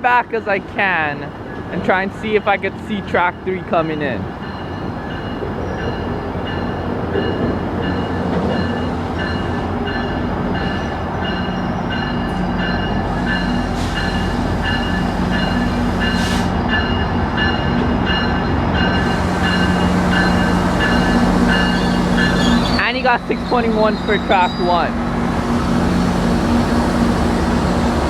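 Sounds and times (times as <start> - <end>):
diesel locomotive hum: 0.0 - 28.0
train bell ringing: 1.0 - 24.9.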